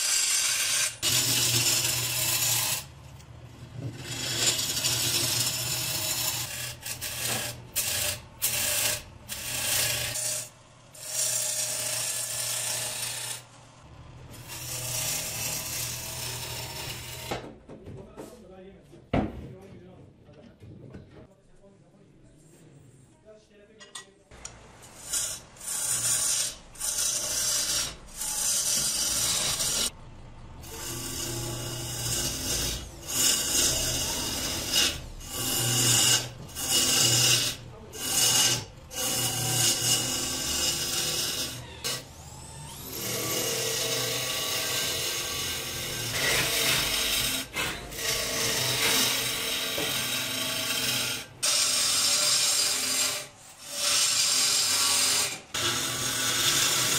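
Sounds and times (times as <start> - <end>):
gouge cutting wood on lathe: 0.0 - 3.0, 3.9 - 13.5, 14.3 - 17.4, 24.9 - 30.0, 30.6 - 56.9.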